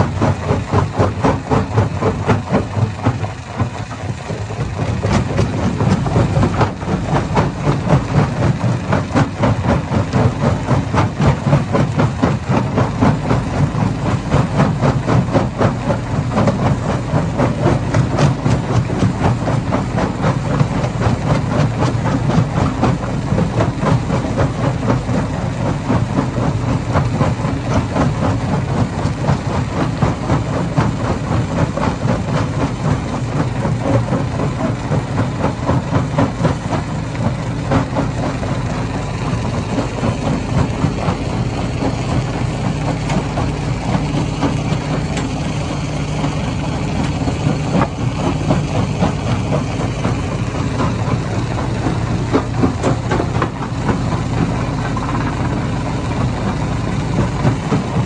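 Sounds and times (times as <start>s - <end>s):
low machine noise: 0.0s - 58.0s.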